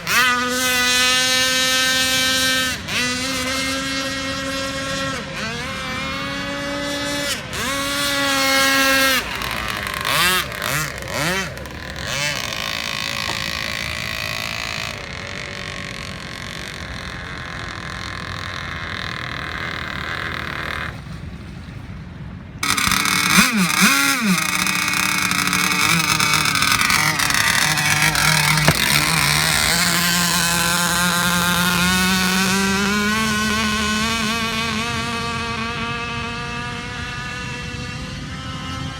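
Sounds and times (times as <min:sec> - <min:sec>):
model speedboat motor whining: 0:00.0 - 0:38.9.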